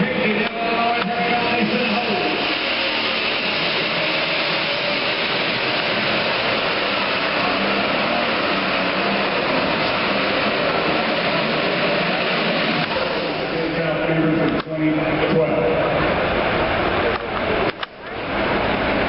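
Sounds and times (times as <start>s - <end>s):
diesel tractor engine under load: 0.0s - 19.0s.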